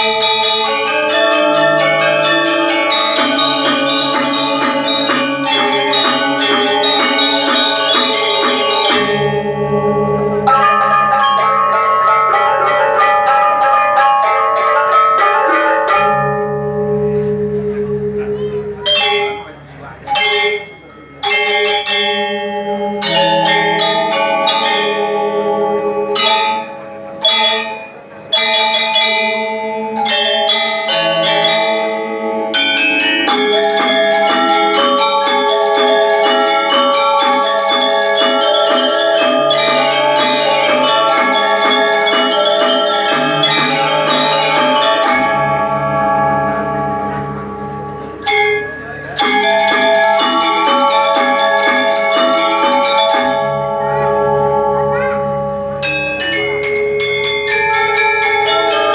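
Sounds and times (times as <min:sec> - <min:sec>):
bell-like percussion ensemble melody: 0:00.0 - 0:58.9.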